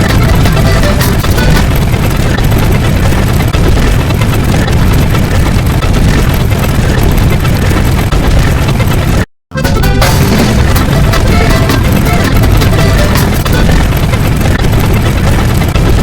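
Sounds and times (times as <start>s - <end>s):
loud distorted rumbling noise: 0.0s - 16.0s.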